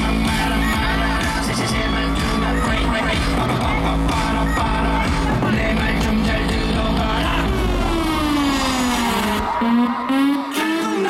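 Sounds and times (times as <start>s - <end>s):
live rock band with singing: 0.0s - 11.0s.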